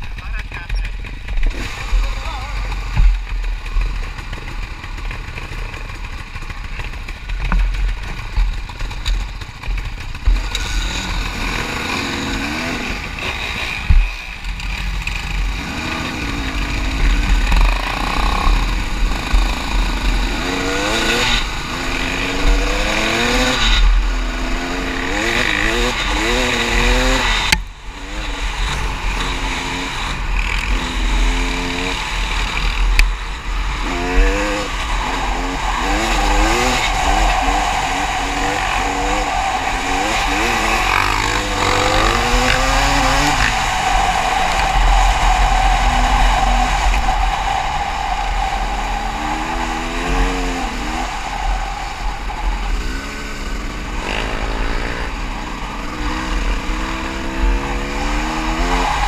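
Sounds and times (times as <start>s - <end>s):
dirt bike engine revving: 0.0s - 59.0s
wind rushing over microphone: 9.2s - 59.0s.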